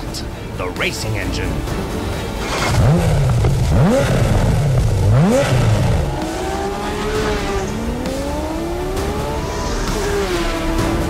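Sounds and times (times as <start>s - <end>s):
car engine revving: 2.1s - 11.0s.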